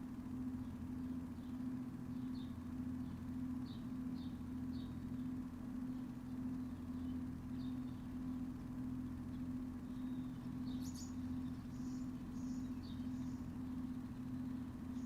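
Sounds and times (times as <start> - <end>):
low mechanical hum: 0.0 - 15.0
small birds chirping: 0.5 - 15.0.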